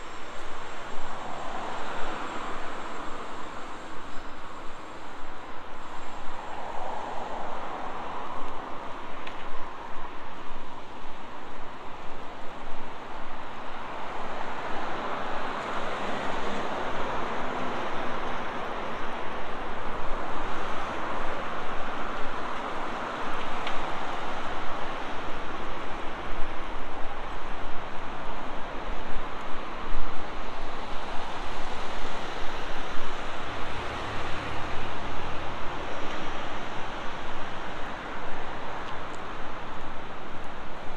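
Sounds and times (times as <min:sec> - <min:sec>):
road traffic hiss: 0:00.0 - 0:40.9.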